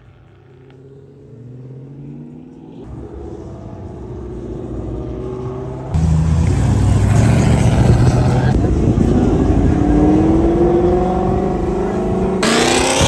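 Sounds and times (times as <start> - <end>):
car engine revving: 1.4 - 13.0.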